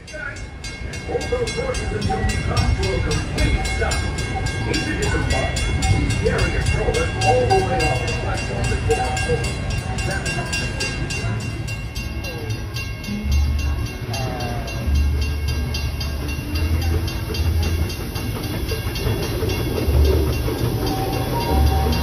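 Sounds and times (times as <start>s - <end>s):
train low rumble: 0.0s - 22.0s
train wheels rhythmic clatter: 0.0s - 22.0s.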